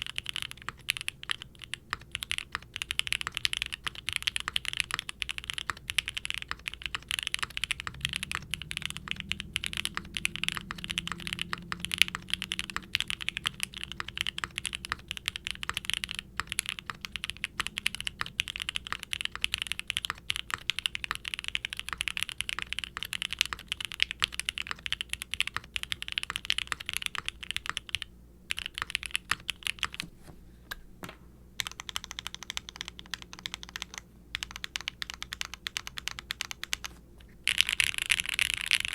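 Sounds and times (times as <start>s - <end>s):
mechanical keyboard typing: 0.0s - 30.1s, 31.6s - 38.9s.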